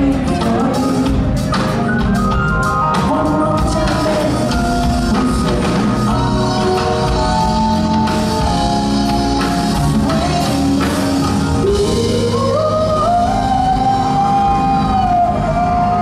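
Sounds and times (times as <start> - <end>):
man singing: 0.0 - 1.7, 2.9 - 16.0
live band playing ballad: 0.0 - 16.0.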